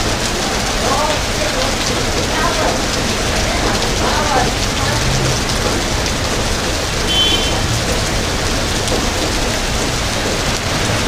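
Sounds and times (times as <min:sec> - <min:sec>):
heavy wind-driven rain: 0:00.0 - 0:11.0.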